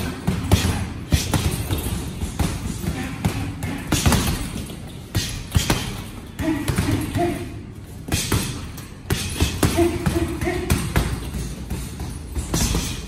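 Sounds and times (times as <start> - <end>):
gloves punching heavy bags: 0.0 - 13.0.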